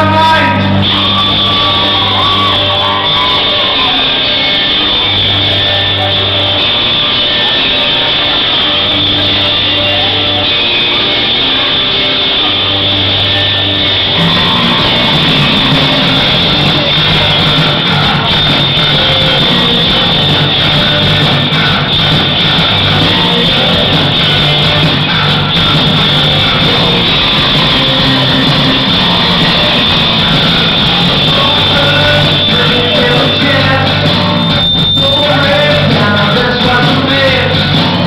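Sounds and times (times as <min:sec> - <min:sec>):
bass guitar: 0:00.0 - 0:38.0
drums: 0:00.0 - 0:38.0
electric guitar: 0:00.0 - 0:38.0.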